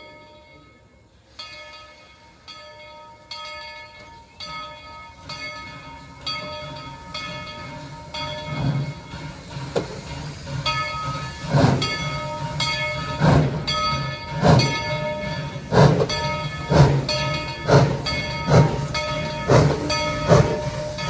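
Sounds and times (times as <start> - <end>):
locomotive bell ringing: 0.0 - 21.0
moving train rumble: 3.4 - 21.0.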